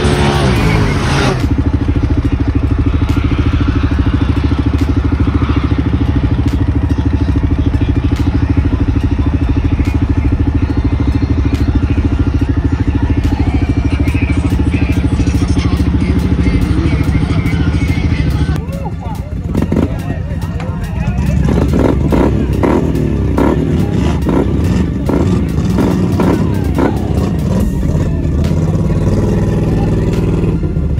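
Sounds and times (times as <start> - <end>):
vehicle engine idling: 0.0 - 30.9.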